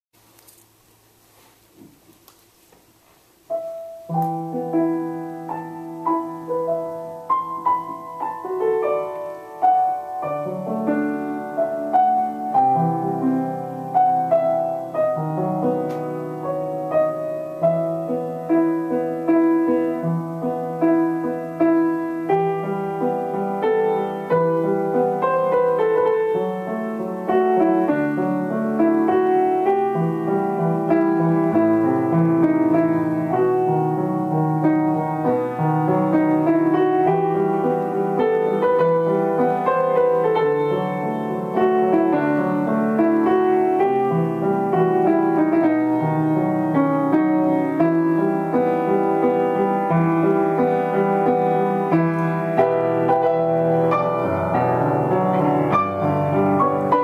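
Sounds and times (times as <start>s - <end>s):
grand piano playing: 3.4s - 57.0s.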